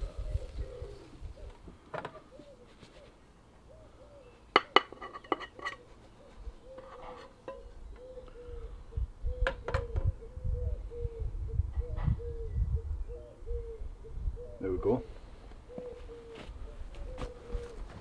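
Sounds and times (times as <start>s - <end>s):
pigeon cooing: 0.0s - 18.0s.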